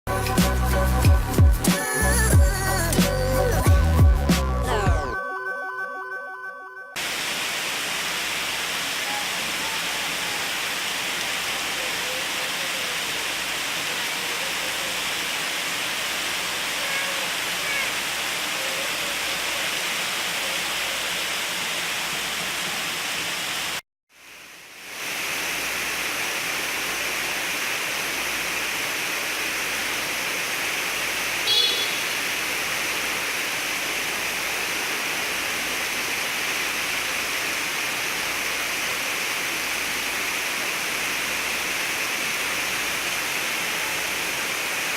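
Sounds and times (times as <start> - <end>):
heavy rain falling: 7.0 - 23.8, 24.7 - 44.9.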